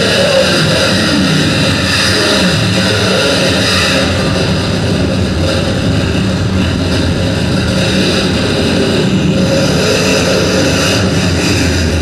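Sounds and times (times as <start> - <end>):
low drone: 0.0 - 12.0.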